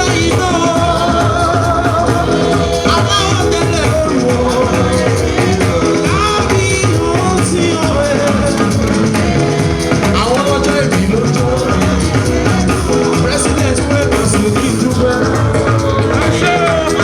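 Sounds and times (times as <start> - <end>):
music with singing and drums: 0.0 - 17.0.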